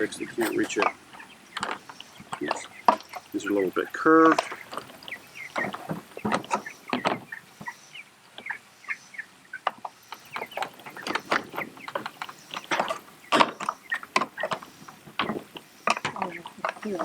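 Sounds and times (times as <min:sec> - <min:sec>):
equipment knocks and clatter: 0:00.0 - 0:07.3, 0:10.1 - 0:17.0
chicks peeping: 0:00.0 - 0:17.0.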